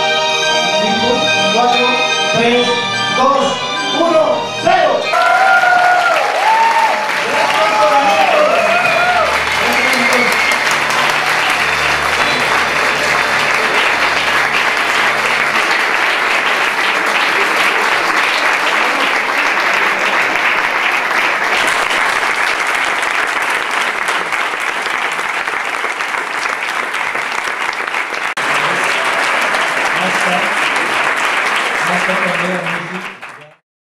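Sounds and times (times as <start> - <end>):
audience applauding: 5.1 - 33.6.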